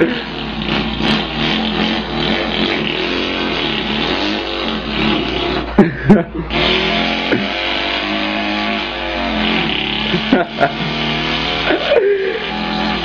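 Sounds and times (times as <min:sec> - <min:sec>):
man imitating engine with mouth: 0:00.0 - 0:13.0.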